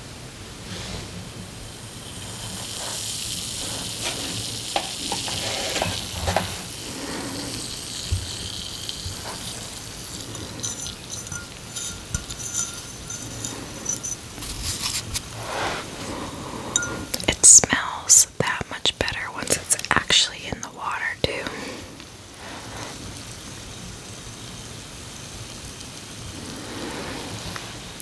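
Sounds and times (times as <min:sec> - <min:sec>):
bath bomb fizzing in water: 0:00.6 - 0:20.8, 0:21.8 - 0:28.0.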